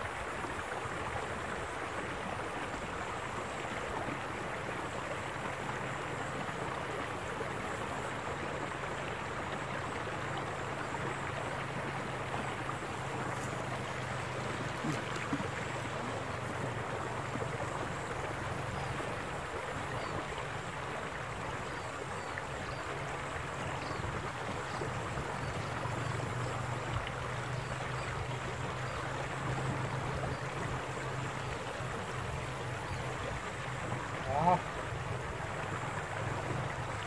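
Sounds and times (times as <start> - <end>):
water rushing along canal: 0.0 - 37.0.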